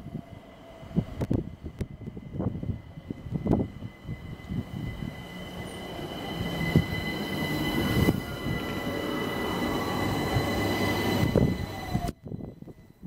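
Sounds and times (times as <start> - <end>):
train wheels rumbling on rail: 0.0 - 13.0
high-pitched whine: 1.6 - 13.0.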